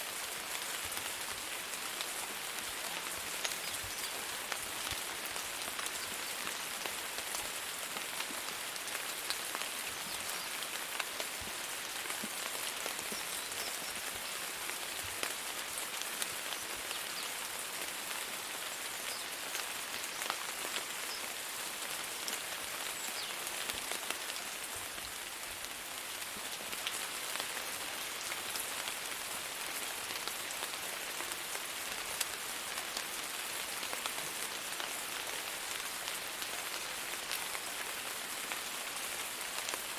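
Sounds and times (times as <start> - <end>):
steady rain hiss: 0.0 - 39.9
raindrops pattering: 0.1 - 39.9.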